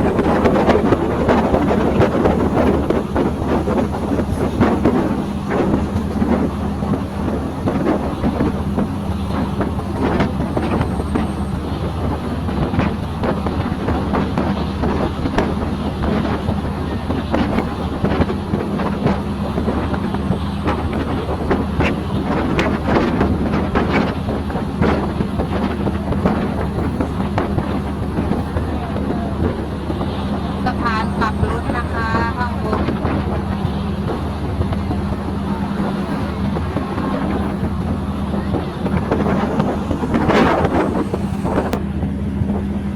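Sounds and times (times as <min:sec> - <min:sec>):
train low drone: 0:00.0 - 0:42.9
wind buffeting microphone: 0:00.0 - 0:42.9.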